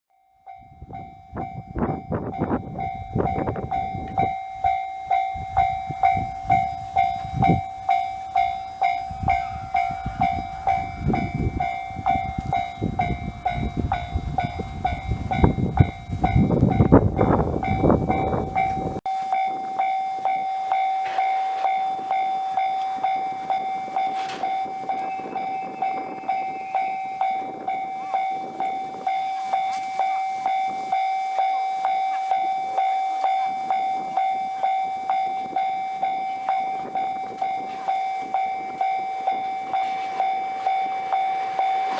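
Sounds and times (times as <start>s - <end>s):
level crossing bell ringing: 0.1s - 41.9s
train rumbling past: 0.5s - 41.9s
train wheel clacks: 1.3s - 41.9s.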